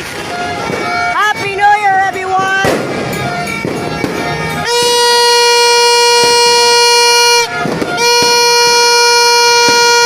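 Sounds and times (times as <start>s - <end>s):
horn blasts: 0.0s - 10.0s.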